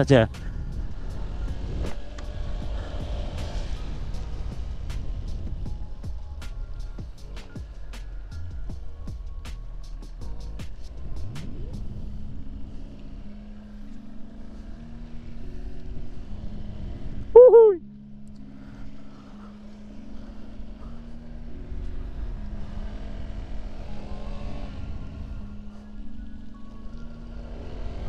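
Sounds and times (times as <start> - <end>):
background music held notes: 0.0 - 28.0.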